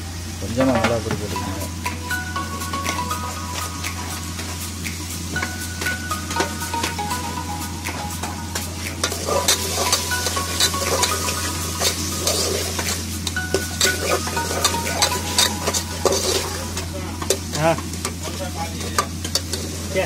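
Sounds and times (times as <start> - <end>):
food sizzling in oil: 1.3 - 20.0.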